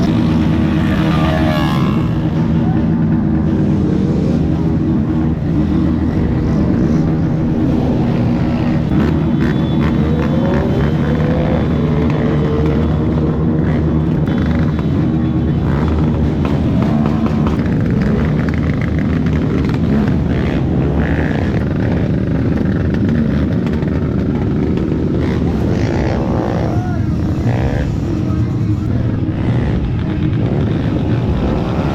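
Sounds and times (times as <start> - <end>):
motorcycle engines revving: 0.0 - 31.9.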